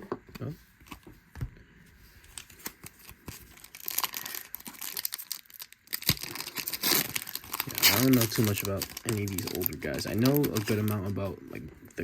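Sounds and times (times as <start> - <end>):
wrapper crinkling and tearing: 2.2 - 12.0.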